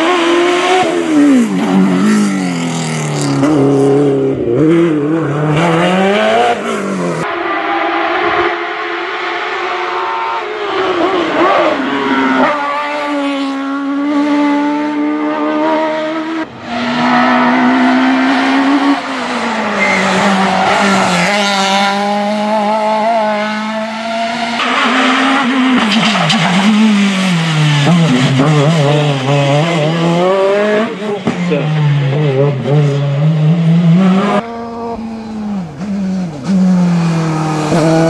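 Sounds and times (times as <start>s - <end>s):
race car engines revving hard: 0.0s - 38.0s.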